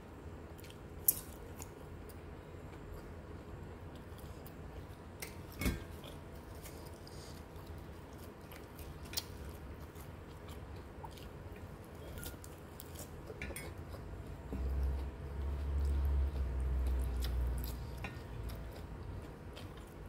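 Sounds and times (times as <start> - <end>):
close chewing: 3.9 - 20.0.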